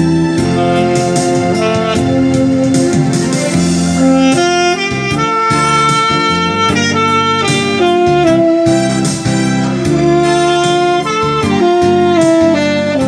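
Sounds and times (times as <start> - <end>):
musical accompaniment with steady beat: 0.0 - 13.0
tenor saxophone melody: 0.0 - 13.0.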